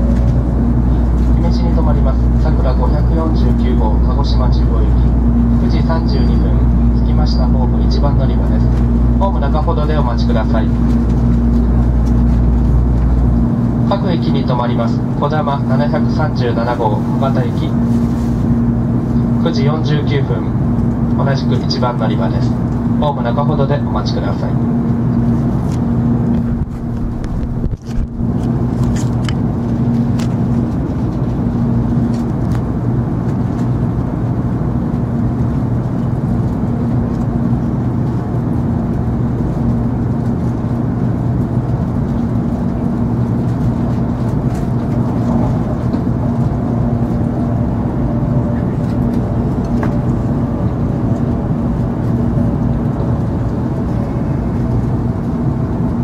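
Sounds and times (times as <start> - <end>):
train cabin rumble and hum: 0.0 - 56.0.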